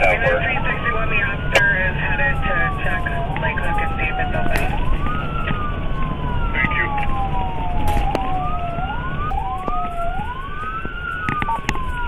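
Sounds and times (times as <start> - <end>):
low vehicle rumble: 0.0 - 12.0
sirens wailing over radio: 0.0 - 12.0.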